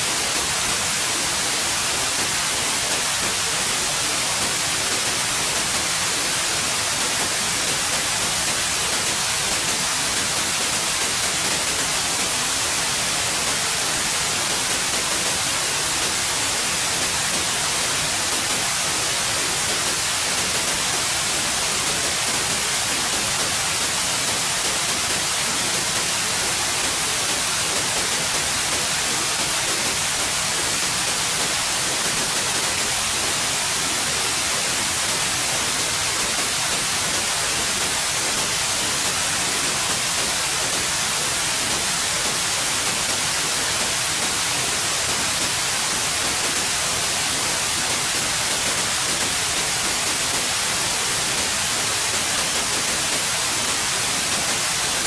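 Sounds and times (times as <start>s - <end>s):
steady white noise: 0.0s - 55.0s.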